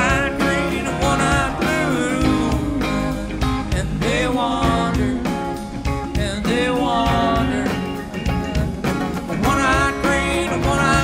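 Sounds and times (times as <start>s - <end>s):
live rock band playing: 0.0s - 11.0s
sliding lead melody: 0.0s - 11.0s.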